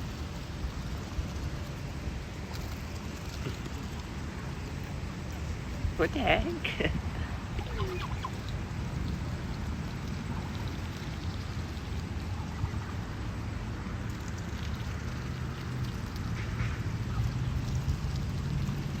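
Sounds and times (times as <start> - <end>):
geese pecking at corn: 0.0 - 6.8, 7.4 - 13.3, 13.9 - 19.0.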